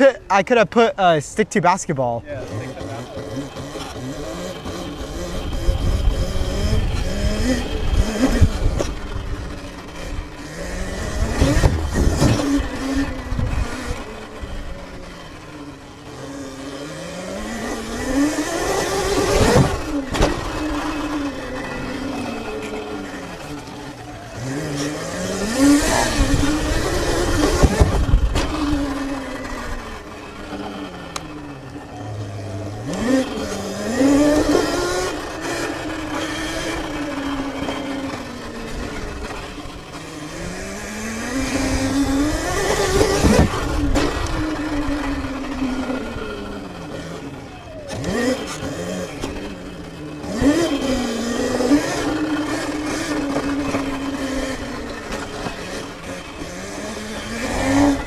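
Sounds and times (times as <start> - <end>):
electric dirt bike motor whining: 2.2 - 58.0.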